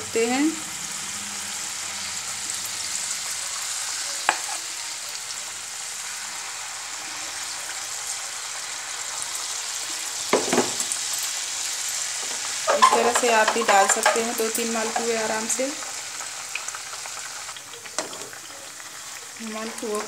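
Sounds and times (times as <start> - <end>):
batter sizzling in hot oil: 0.0 - 20.0.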